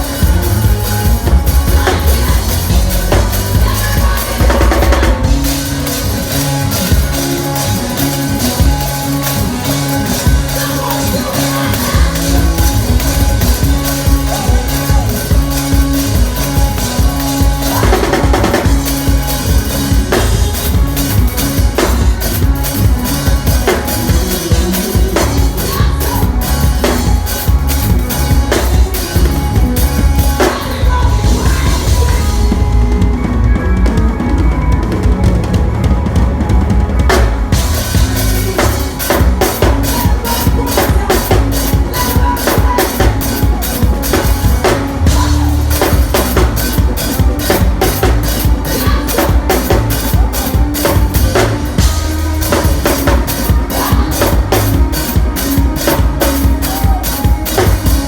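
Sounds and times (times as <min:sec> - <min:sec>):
drum kit with rimshots: 0:00.0 - 0:58.0
live church band music: 0:00.0 - 0:58.0.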